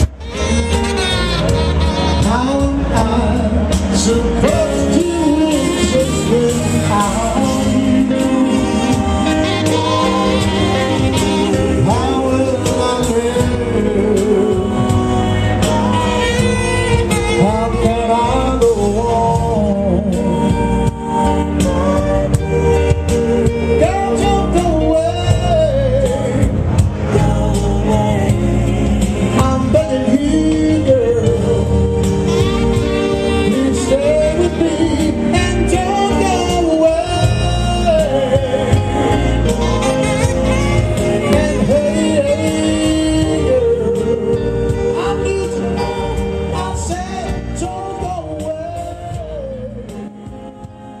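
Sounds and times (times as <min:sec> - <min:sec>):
electric guitar: 0:00.0 - 0:51.0
live pop band playing: 0:00.0 - 0:51.0
man singing into a microphone: 0:00.0 - 0:51.0.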